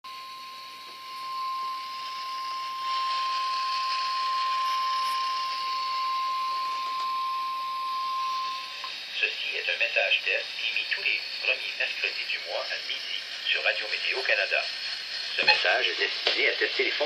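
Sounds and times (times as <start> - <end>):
steady high alarm tone: 0.1 - 13.8
radio static hiss: 0.1 - 17.0.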